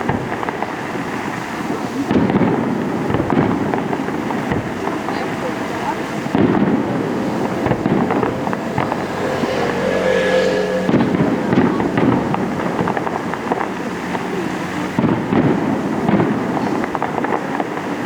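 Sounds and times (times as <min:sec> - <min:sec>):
fireworks crackling and popping: 0:00.0 - 0:09.4, 0:10.9 - 0:18.0.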